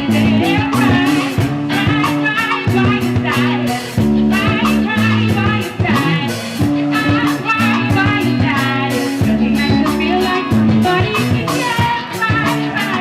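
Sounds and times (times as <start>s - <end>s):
live band jamming: 0.0s - 13.0s.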